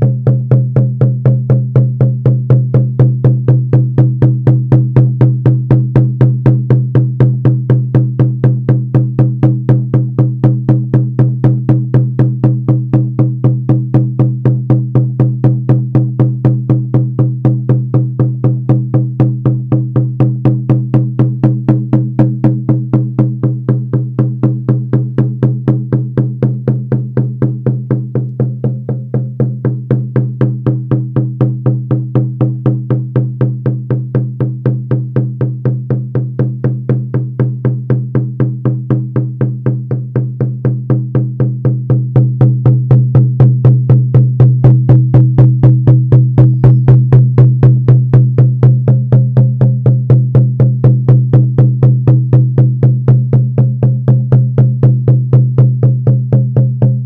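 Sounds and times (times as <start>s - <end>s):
frame drum beating: 0.0s - 57.0s.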